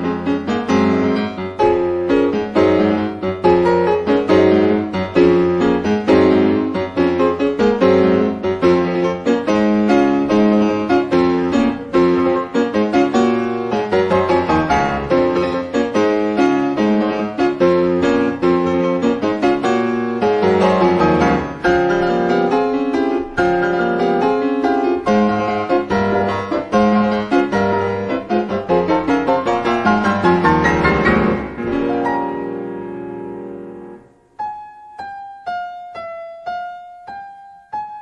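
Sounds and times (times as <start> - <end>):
solo piano music: 0.0 - 38.0.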